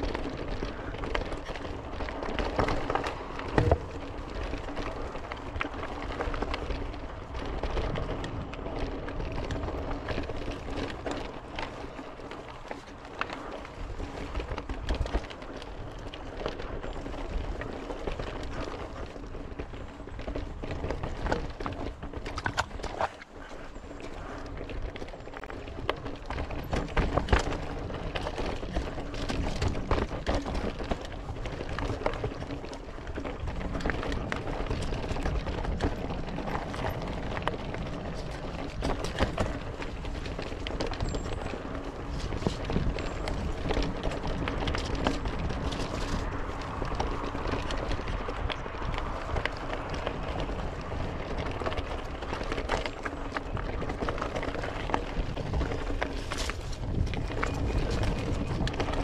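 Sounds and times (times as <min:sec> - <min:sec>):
bike knocking and rattling on rocks: 0:00.0 - 0:59.0
bike tyres on dirt: 0:00.0 - 0:59.0.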